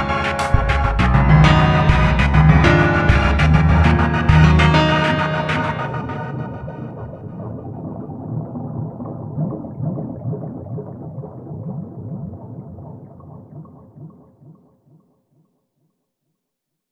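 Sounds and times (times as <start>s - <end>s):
muffled bubbling water: 0.6s - 15.2s.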